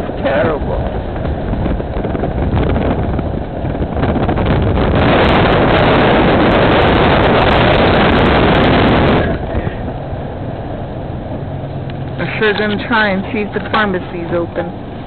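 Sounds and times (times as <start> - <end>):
car road noise: 0.0 - 15.0
wind buffeting microphone: 0.0 - 15.0.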